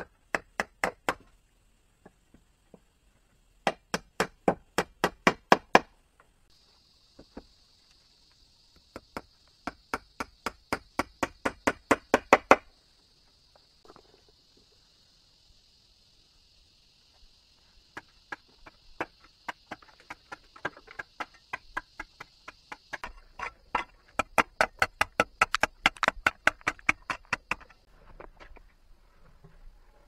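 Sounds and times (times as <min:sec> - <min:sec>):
steady high-pitched hiss: 0:00.0 - 0:30.0.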